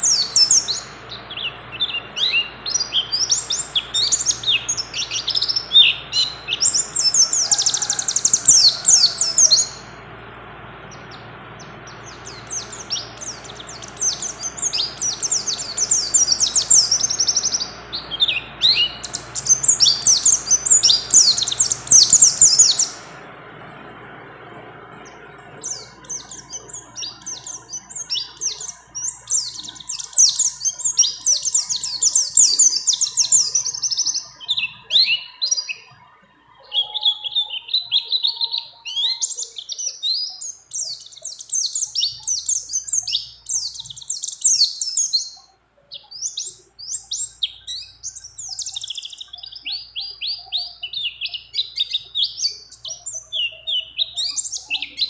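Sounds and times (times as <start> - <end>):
bird twittering song: 0.0 - 10.1, 10.8 - 55.0.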